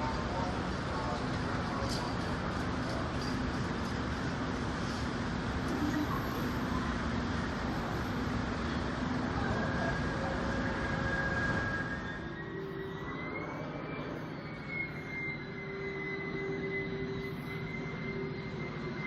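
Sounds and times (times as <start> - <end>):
diesel locomotive rumbling: 0.0 - 19.0
thin high whine: 0.0 - 19.0.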